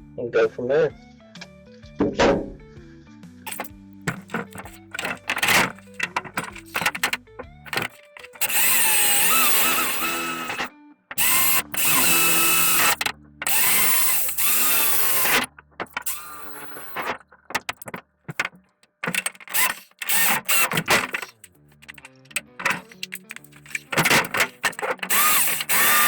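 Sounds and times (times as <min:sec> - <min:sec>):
power drill squealing through metal: 0:03.5 - 0:26.0.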